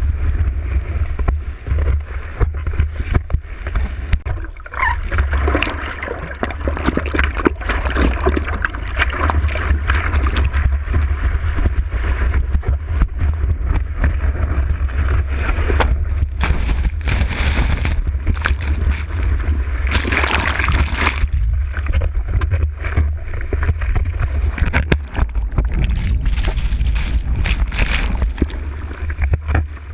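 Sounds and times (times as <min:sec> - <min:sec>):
steady low rumble: 0:00.0 - 0:29.9
ocean surf sloshing and rushing: 0:00.1 - 0:29.9.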